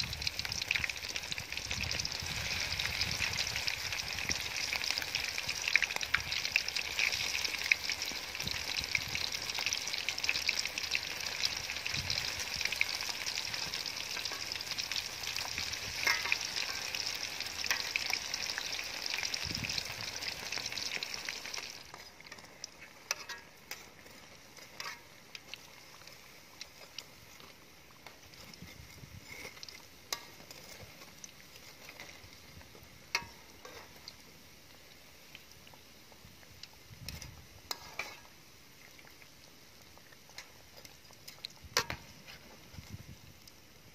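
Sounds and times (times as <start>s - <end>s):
oil crackling and popping: 0.0s - 43.9s
oil sizzling in wok: 0.0s - 43.9s.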